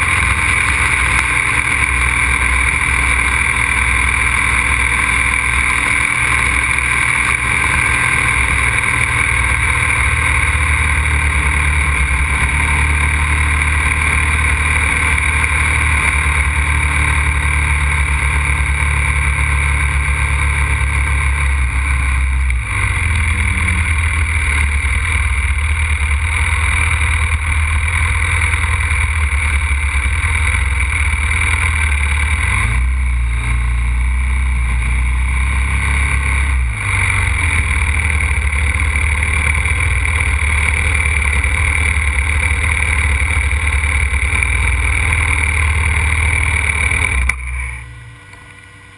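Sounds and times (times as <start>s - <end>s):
motorcycle engine running hard: 0.0s - 48.9s.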